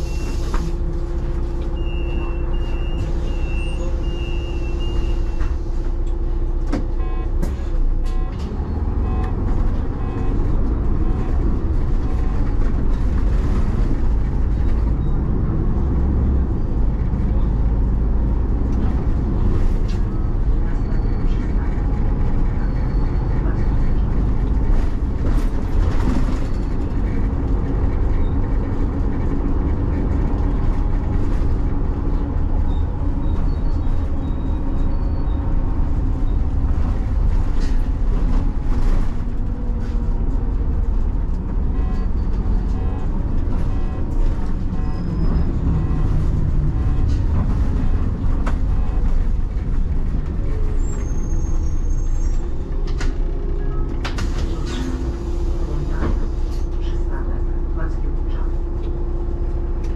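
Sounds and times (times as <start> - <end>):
bus engine: 0.0 - 59.9
road noise: 0.0 - 59.9.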